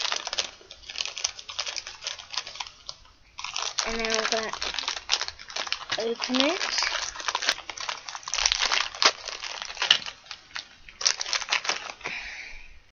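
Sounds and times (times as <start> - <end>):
toy packaging rustling and cracking: 0.0 - 12.2.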